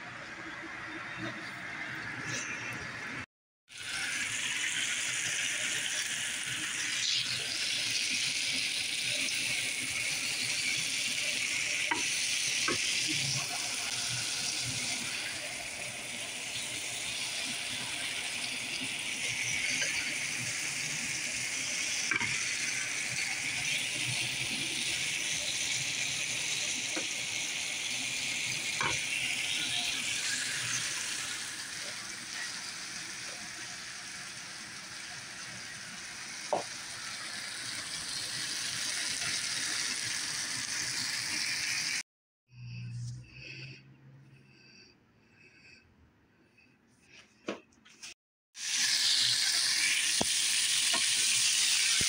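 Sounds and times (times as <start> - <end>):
vegetables sizzling in a pan: 3.7 - 42.0, 48.6 - 52.0.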